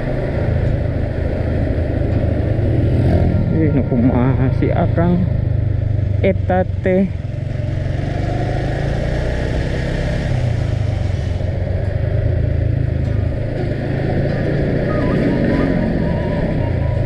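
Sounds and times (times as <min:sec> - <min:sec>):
motorcycle engine humming: 0:00.0 - 0:17.0
road and wind noise: 0:00.0 - 0:17.0.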